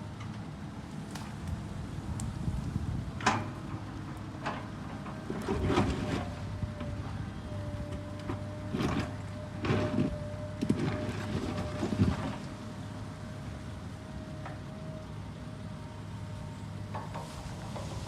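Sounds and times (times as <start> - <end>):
heavy machine engine rumble: 0.0 - 18.0.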